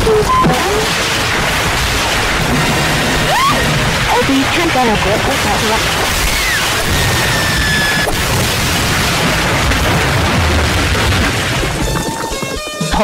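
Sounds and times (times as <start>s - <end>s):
cartoon boulders tumbling: 0.0s - 13.0s
sharp crack: 0.5s - 13.0s.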